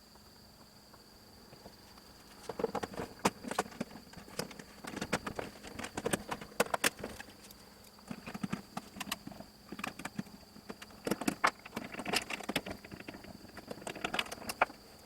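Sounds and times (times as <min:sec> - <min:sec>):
faint high whine: 0:00.0 - 0:15.0
parts and tools clicking and tapping: 0:02.4 - 0:14.8.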